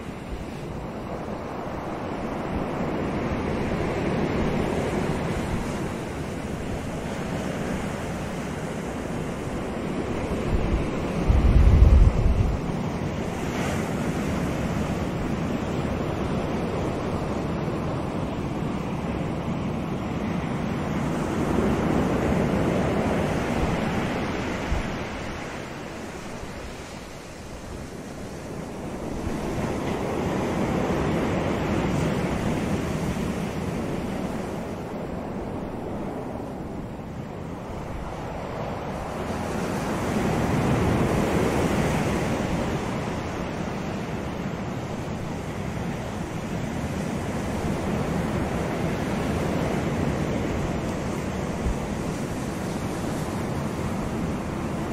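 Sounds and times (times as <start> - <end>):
small waves breaking on shore: 0.0 - 54.9
wind buffeting microphone: 0.0 - 54.9.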